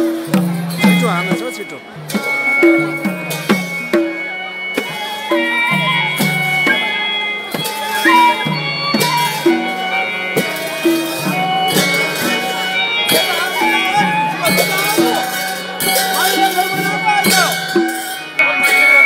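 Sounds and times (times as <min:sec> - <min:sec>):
drum beating steady rhythm: 0:00.0 - 0:19.0
held melodic notes: 0:00.0 - 0:19.0.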